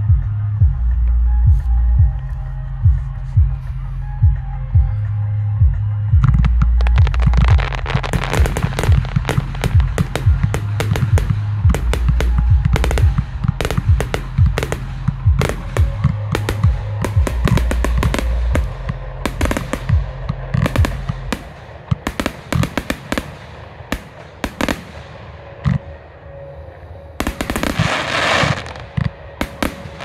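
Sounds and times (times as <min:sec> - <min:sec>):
steady low drone: 0:00.0 - 0:30.0.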